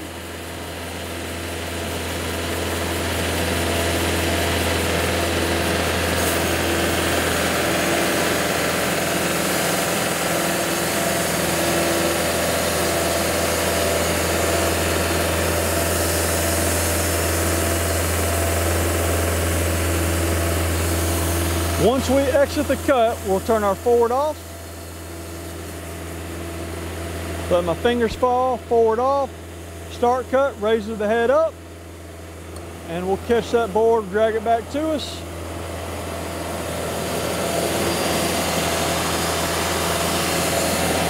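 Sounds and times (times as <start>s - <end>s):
band sawmill cutting log: 0.0s - 41.0s.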